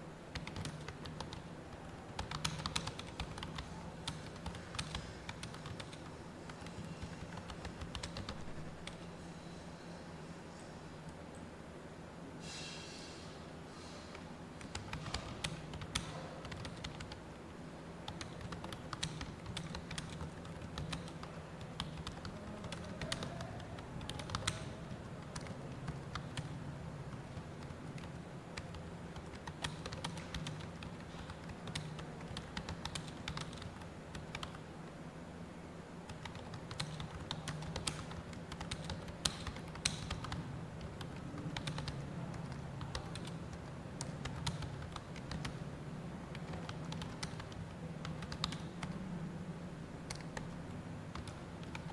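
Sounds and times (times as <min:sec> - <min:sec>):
fast typing on keyboard: 0:00.3 - 0:09.1, 0:14.6 - 0:17.2, 0:18.0 - 0:34.6, 0:36.1 - 0:45.7, 0:46.3 - 0:49.0, 0:50.0 - 0:51.9.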